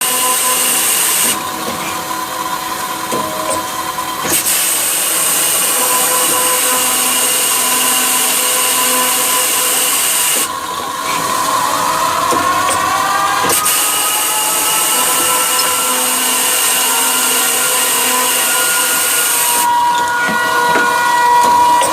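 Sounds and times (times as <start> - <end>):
metal-cutting machine whine and hiss: 0.0 - 21.9.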